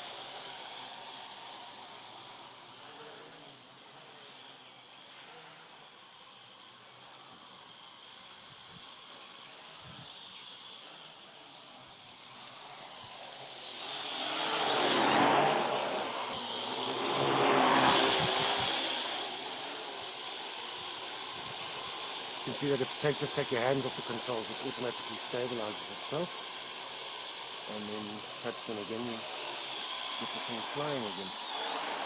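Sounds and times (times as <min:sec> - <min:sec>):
quadcopter rotors buzzing: 0:00.0 - 0:32.0.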